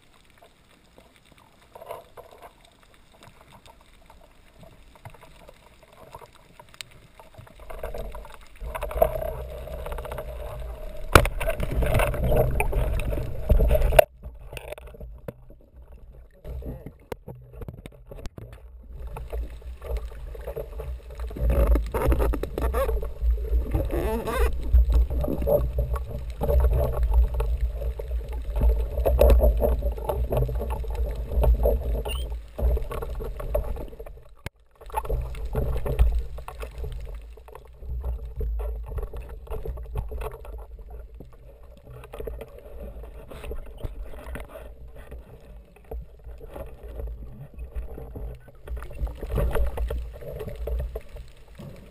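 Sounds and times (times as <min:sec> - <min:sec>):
water swishing around camera housing: 0:00.0 - 0:51.9
muffled underwater rumble: 0:03.3 - 0:51.9.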